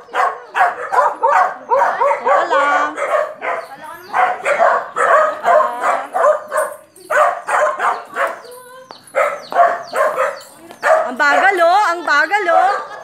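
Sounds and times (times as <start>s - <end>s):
dog barking: 0.0s - 11.6s, 12.5s - 13.0s.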